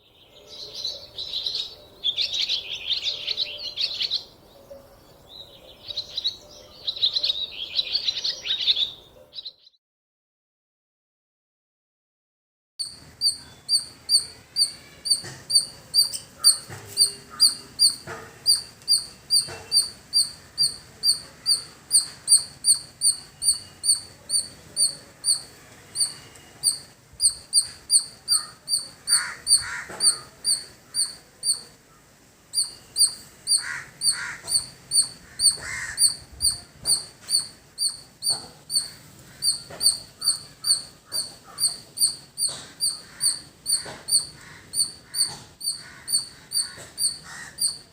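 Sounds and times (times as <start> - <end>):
squirrel chirping calls: 0.0 - 9.8, 12.8 - 47.9.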